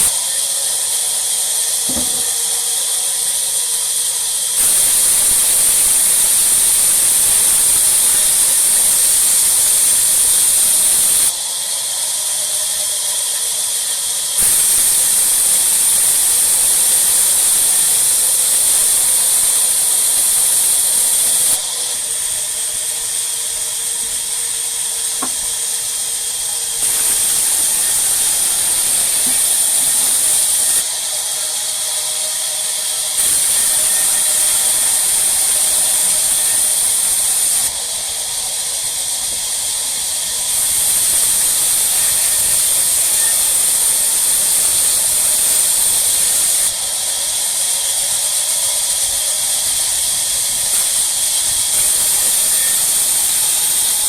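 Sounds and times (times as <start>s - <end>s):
sawmill saw hissing: 0.0s - 54.0s.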